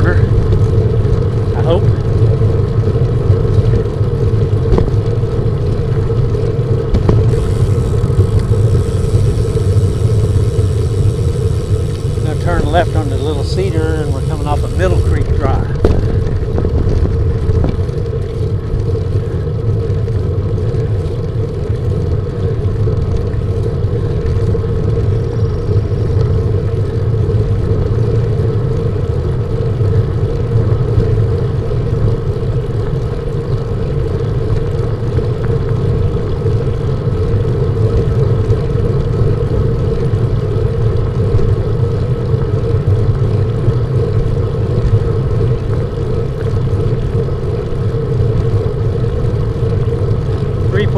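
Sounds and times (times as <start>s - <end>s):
constant hum: 0.0s - 50.9s.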